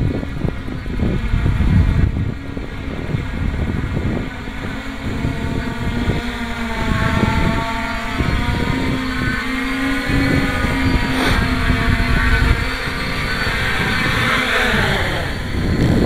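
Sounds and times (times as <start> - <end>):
drone propellers humming: 0.0 - 16.0
wind buffeting microphone: 0.0 - 16.0.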